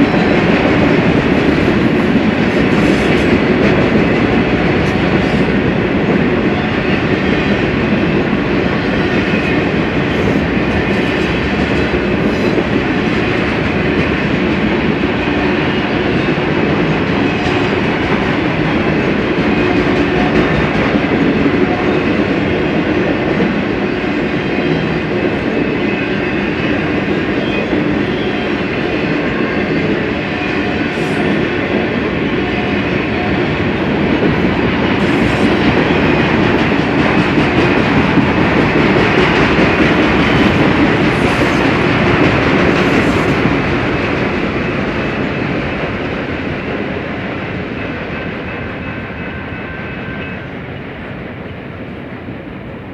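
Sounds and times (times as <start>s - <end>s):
freight train wheels rumbling on rail: 0.0s - 52.9s.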